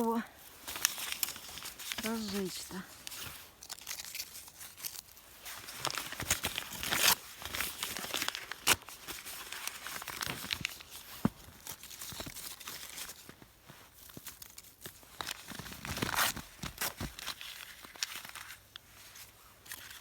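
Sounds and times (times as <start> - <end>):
paper crumpling and tearing: 0.6 - 13.3, 14.0 - 20.0.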